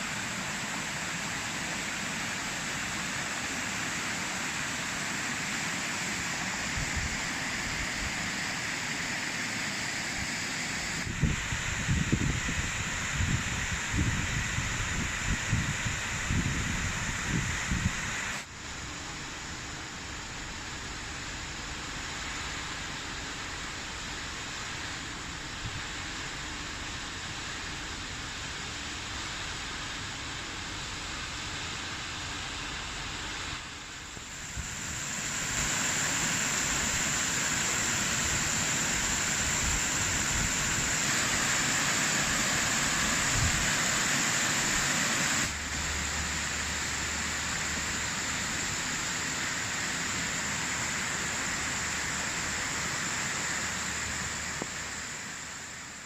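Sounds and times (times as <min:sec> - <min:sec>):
rainfall hiss: 0:00.0 - 0:56.0.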